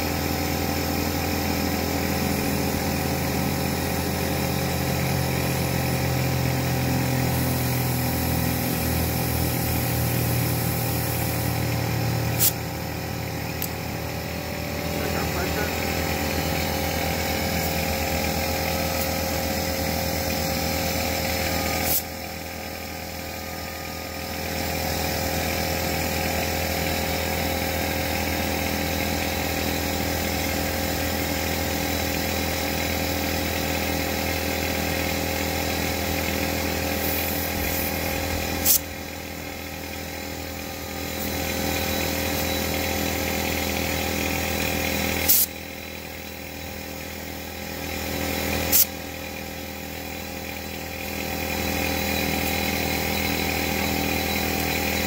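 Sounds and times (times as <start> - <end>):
air compressor running: 0.0 - 55.0.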